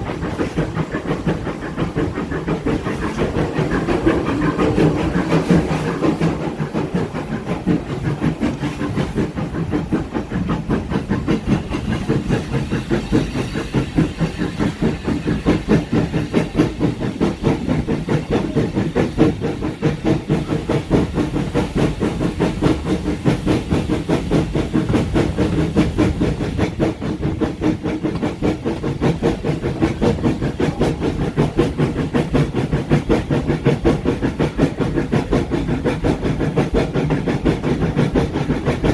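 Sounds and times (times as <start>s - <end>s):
train hiss: 0.0s - 38.9s
train rhythmic beat: 0.0s - 38.9s.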